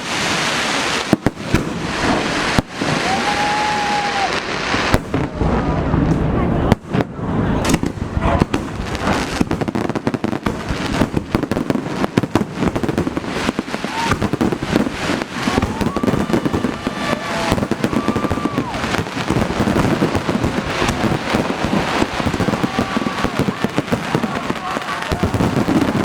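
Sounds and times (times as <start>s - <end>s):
firework whistling: 0.0s - 26.0s
fireworks crackling and popping: 0.0s - 26.0s.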